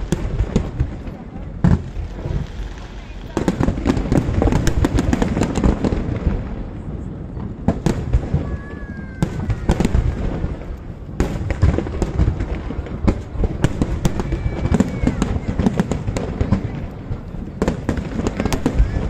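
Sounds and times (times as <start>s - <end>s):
fireworks bursting with bangs: 0.0s - 19.0s
fireworks crackling: 0.0s - 19.0s.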